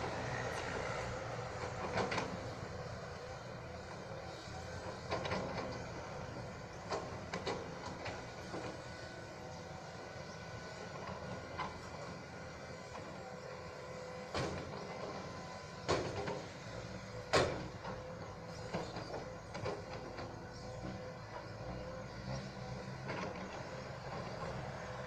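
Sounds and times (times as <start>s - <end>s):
diesel machinery engine hum: 0.0s - 25.0s.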